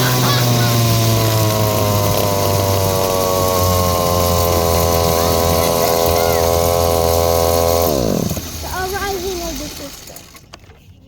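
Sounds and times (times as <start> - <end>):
dirt bike engine running: 0.0 - 10.5.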